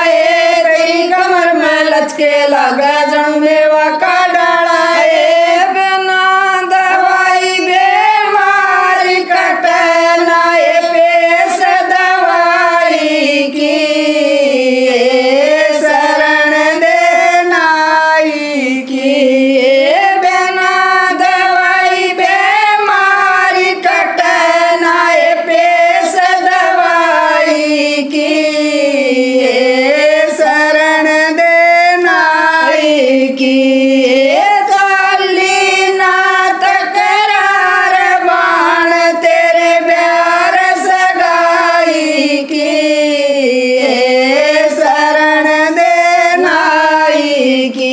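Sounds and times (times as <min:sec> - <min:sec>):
women singing in unison: 0:00.0 - 0:47.9.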